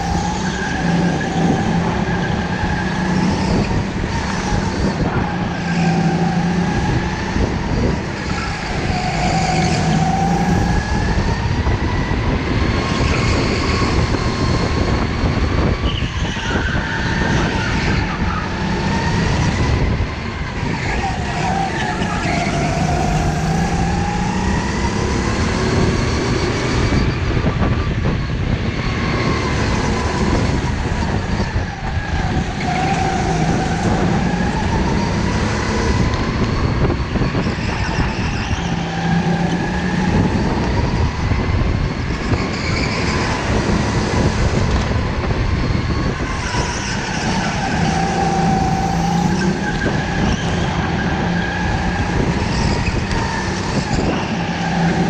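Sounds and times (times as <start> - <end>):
constant rushing noise: 0.0 - 55.0
go-kart motor revving: 0.0 - 55.0.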